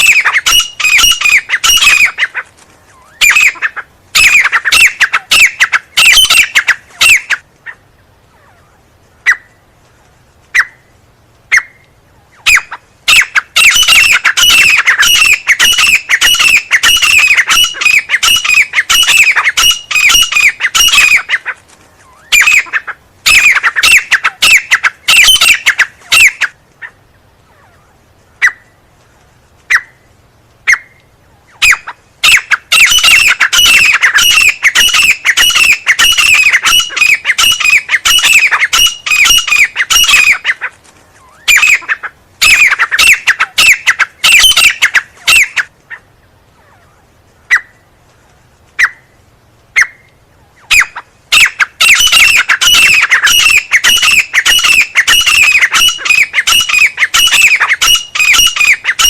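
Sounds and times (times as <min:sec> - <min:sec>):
francolin calling: 0:00.0 - 0:09.7, 0:10.4 - 0:28.8, 0:29.6 - 0:47.9, 0:48.8 - 0:59.0.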